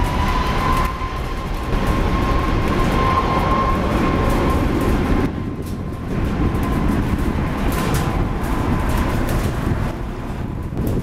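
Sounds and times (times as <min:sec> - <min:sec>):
jet engine rumble: 0:00.0 - 0:11.0
jet engine whine: 0:00.0 - 0:11.0.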